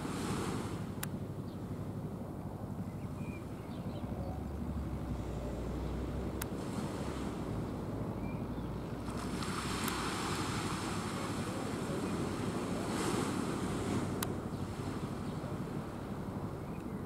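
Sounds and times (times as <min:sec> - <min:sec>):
sea wash: 0:00.0 - 0:17.0.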